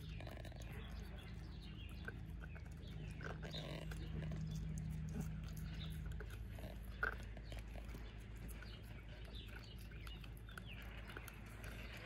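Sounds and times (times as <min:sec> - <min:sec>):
dog gnawing a bone: 0:00.0 - 0:12.0
steady low hum: 0:00.0 - 0:12.0.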